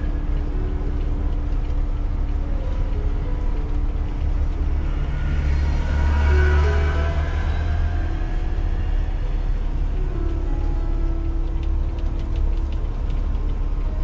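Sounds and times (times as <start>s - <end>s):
truck diesel engine rumble: 0.0s - 14.0s.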